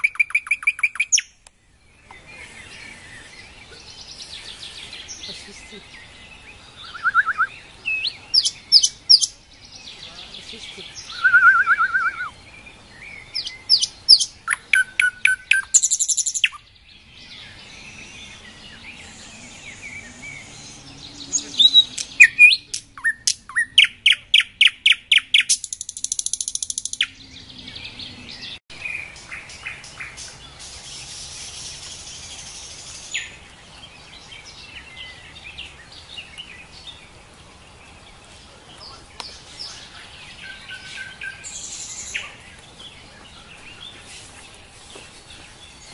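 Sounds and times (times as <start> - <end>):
nightingale singing: 0.0 - 45.9.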